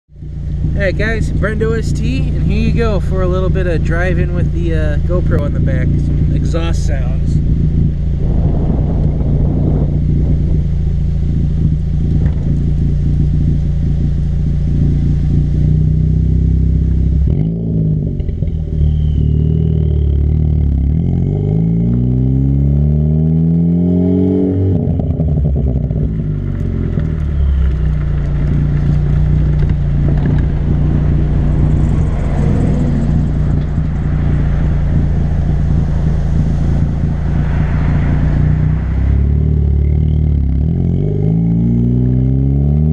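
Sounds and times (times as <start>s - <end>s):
car exhaust under acceleration: 0.1s - 42.9s.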